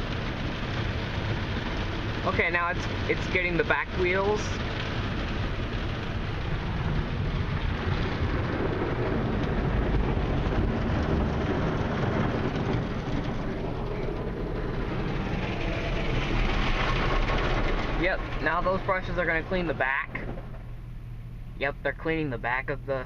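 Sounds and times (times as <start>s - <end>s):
car wash brushes rumbling: 0.0s - 23.0s
water spattering on car body: 0.1s - 19.6s.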